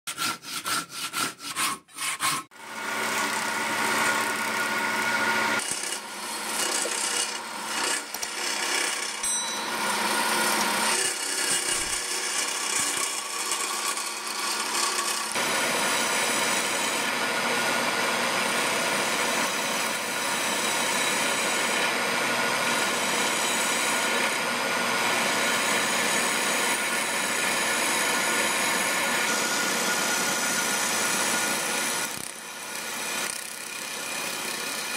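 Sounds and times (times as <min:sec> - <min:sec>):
hand saw cutting log: 0:00.1 - 0:09.3, 0:10.1 - 0:34.9
tool scraping spinning wood: 0:00.1 - 0:34.9
wood lathe running: 0:02.6 - 0:34.9.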